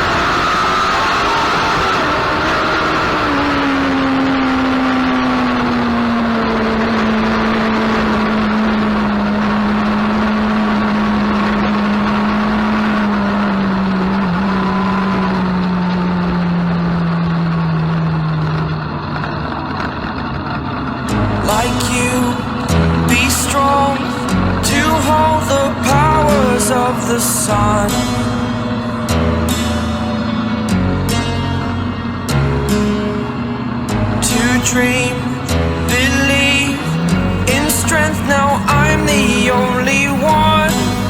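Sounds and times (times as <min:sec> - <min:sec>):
motor vehicle engine running: 0:00.0 - 0:41.0.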